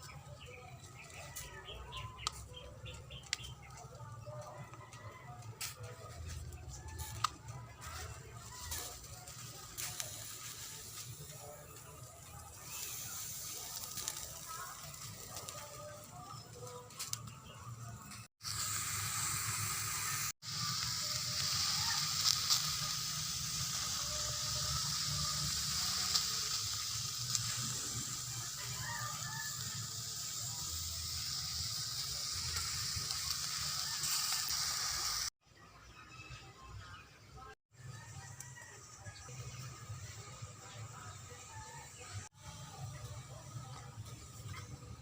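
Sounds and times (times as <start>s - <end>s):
food sizzling over fire: 0.0s - 35.4s, 37.8s - 45.0s.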